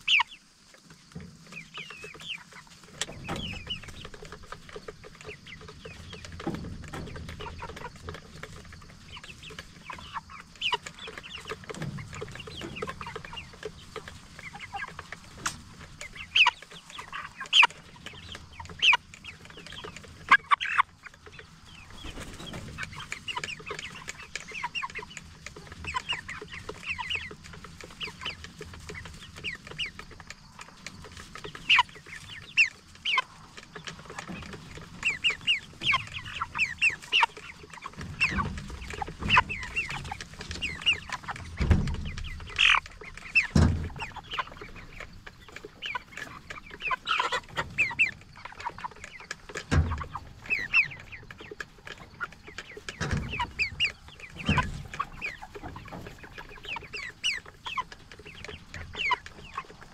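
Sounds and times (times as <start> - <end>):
chickens clucking and peeping: 0.0 - 59.9.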